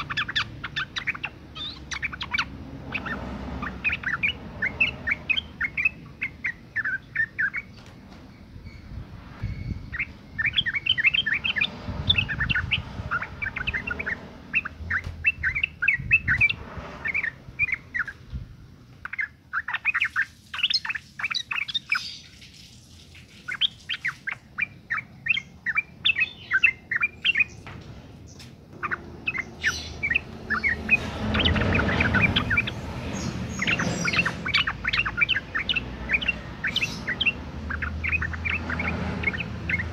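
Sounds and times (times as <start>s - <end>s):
bird chattering calls: 0.0s - 7.8s, 9.4s - 18.2s, 19.0s - 22.5s, 23.3s - 27.6s, 28.7s - 39.9s.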